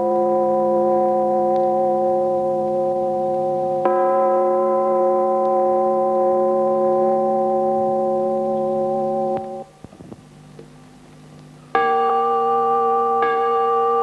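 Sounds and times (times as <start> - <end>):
instrumental music steady chord: 0.0 - 9.7, 11.7 - 14.0.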